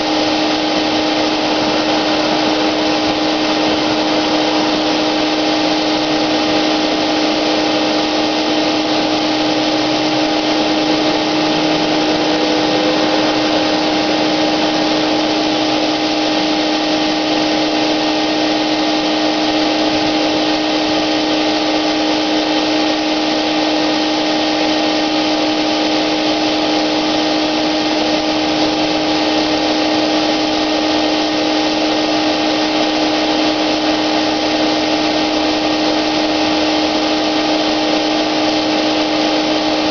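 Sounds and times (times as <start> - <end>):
electric paint sprayer running: 0.0 - 39.9.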